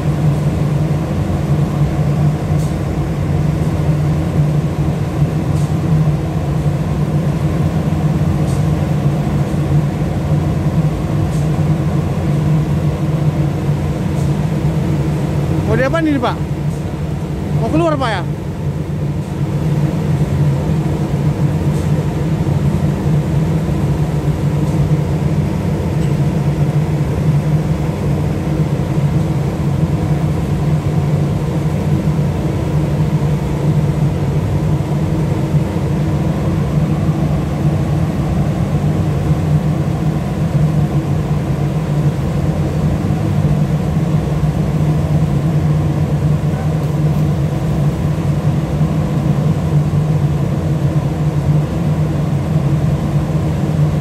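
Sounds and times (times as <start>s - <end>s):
ship engine humming: 0.0s - 54.0s.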